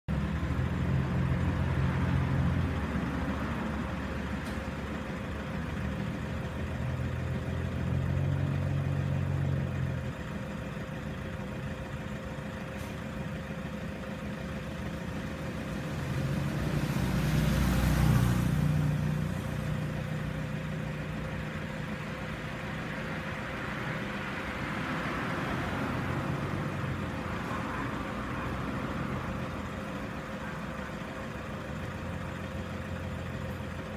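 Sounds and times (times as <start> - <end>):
vehicle engine idling: 0.1 - 33.9.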